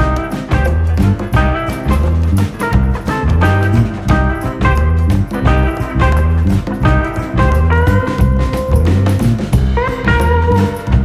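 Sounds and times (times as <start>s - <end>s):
bass line: 0.0s - 11.0s
bluesy swing instrumental music: 0.0s - 11.0s
drums: 0.0s - 11.0s.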